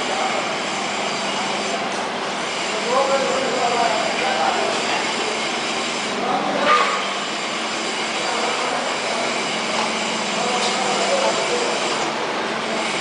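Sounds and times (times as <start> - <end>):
furnace hiss and roar: 0.0 - 13.0.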